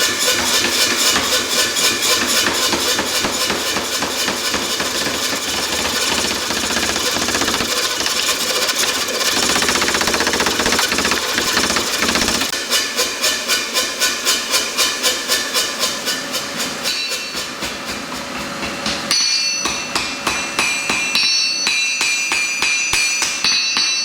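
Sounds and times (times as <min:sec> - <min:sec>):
power hammer striking steel: 0:00.0 - 0:16.3, 0:16.9 - 0:24.0.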